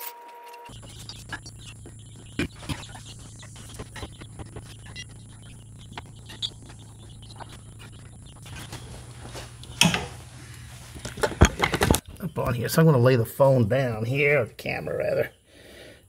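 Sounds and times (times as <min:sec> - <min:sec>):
steady low hum: 0:00.7 - 0:16.0.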